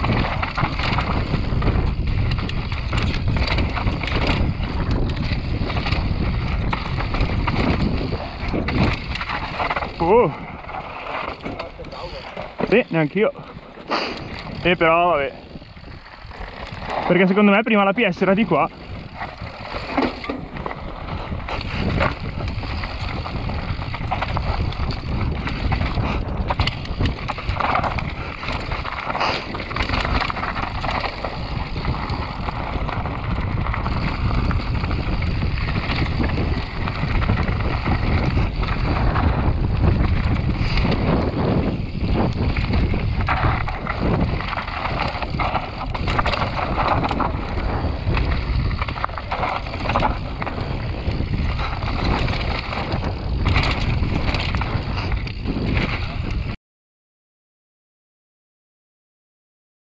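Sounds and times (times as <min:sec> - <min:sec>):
tyres crunching over loose stones: 0:00.0 - 0:56.5
chain and frame rattling: 0:00.1 - 0:56.4.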